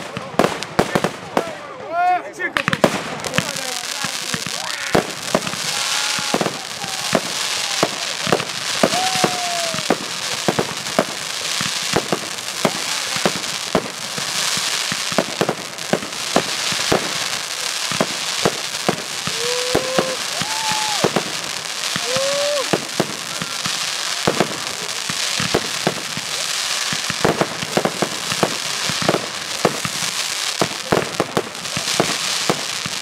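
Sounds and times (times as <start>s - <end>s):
fireworks hissing and crackling: 0.0s - 33.0s.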